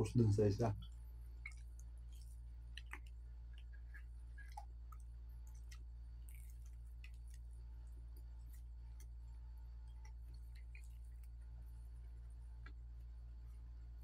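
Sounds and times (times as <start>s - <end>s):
steady low hum: 0.0s - 14.0s
chewing and biting: 1.3s - 12.8s.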